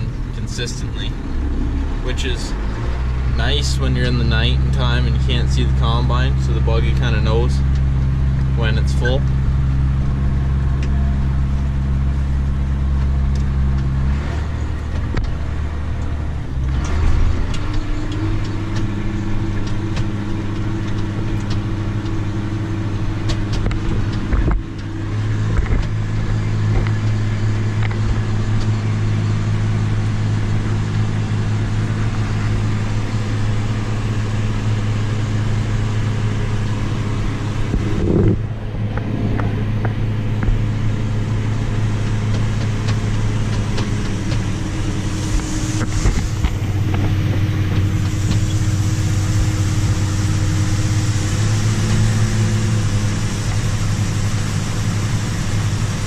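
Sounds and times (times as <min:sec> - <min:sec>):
combine engine and machinery hum: 0:00.0 - 0:56.0.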